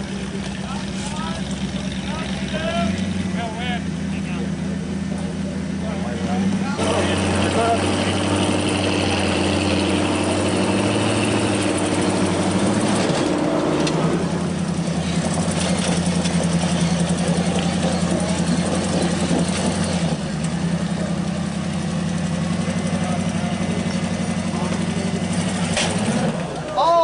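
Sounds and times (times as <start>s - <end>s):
truck engine running low revs: 0.0s - 27.0s.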